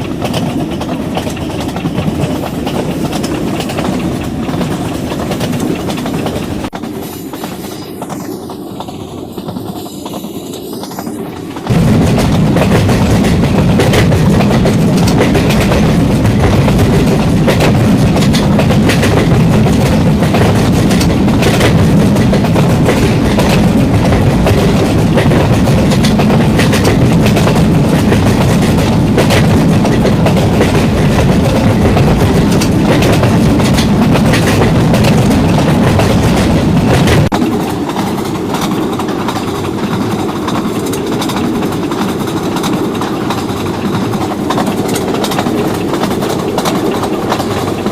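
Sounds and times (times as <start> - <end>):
wheels clattering over rail joints: 0.0 - 9.8, 11.3 - 47.9
diesel locomotive rumble: 0.0 - 47.9.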